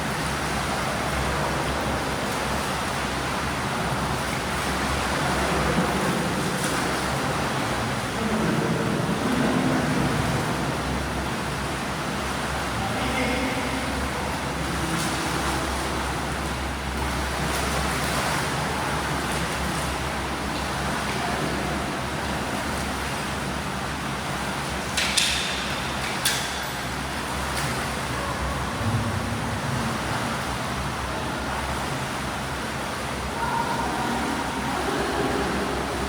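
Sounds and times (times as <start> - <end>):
swimming pool water and swimmers: 0.0 - 36.0.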